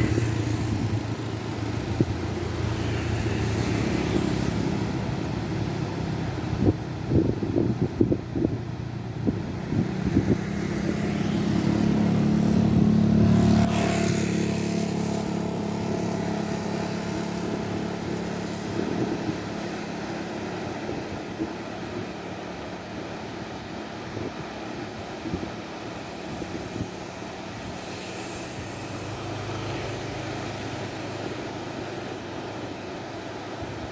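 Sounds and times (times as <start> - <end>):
boat engine passing: 0.0 - 33.9
wind buffeting microphone: 0.0 - 33.9.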